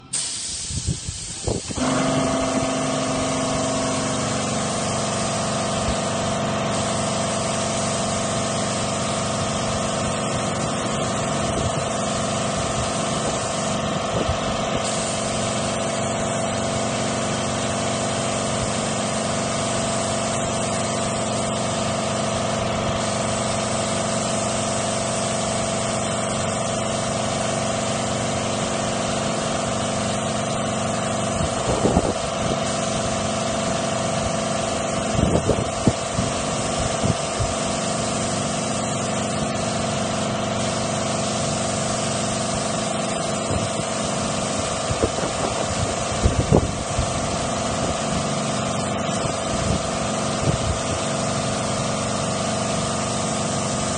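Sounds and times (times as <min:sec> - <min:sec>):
air compressor motor hum: 0:00.0 - 0:53.9
spray gun air hiss: 0:00.0 - 0:53.9.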